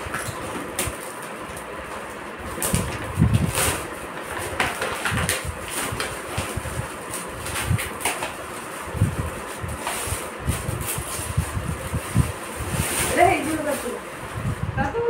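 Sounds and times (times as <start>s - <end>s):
foil wrapping paper crinkling: 0.0s - 14.5s.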